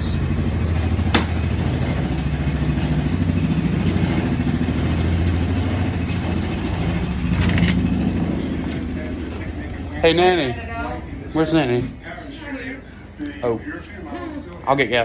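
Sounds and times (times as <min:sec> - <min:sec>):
engine idling: 0:00.0 - 0:12.6.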